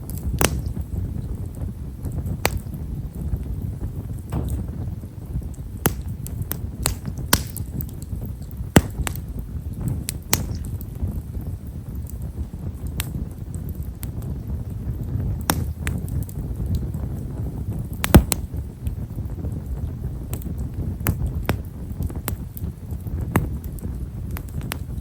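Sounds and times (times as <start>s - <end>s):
low steady rumble: 0.0s - 20.1s
campfire crackling and popping: 0.0s - 25.0s.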